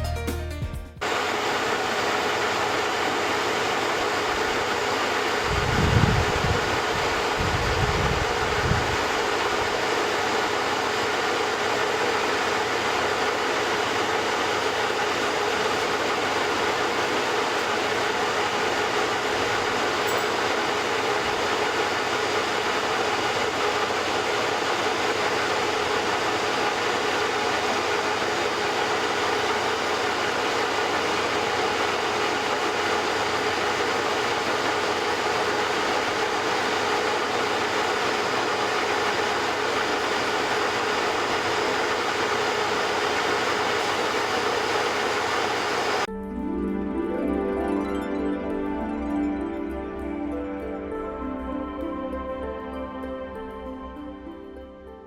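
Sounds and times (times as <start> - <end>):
metal lathe running: 1.0 - 46.1.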